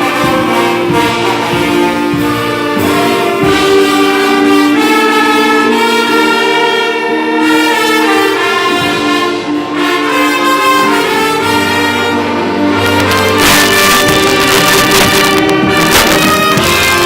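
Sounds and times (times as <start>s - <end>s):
brass held notes: 0.0s - 17.0s
orchestra playing: 0.0s - 17.0s
percussion strikes: 0.0s - 17.0s.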